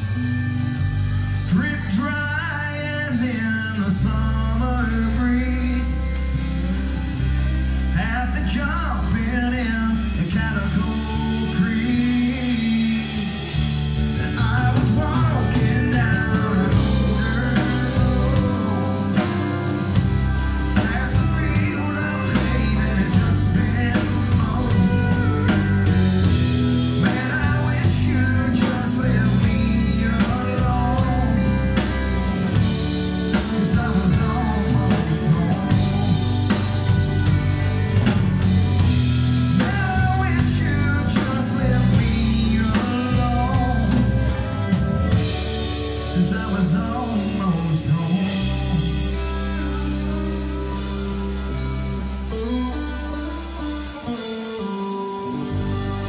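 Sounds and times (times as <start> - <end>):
country-rock band playing: 0.0 - 56.0.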